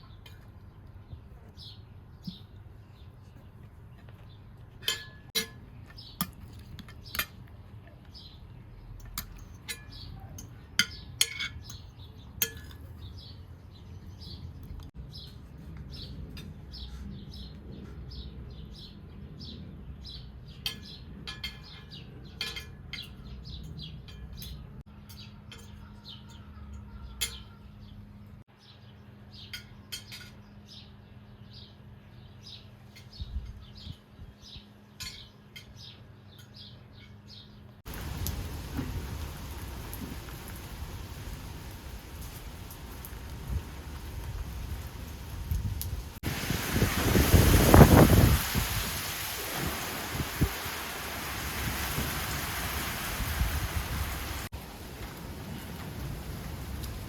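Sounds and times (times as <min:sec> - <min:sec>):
small birds chirping: 0:00.0 - 0:46.2.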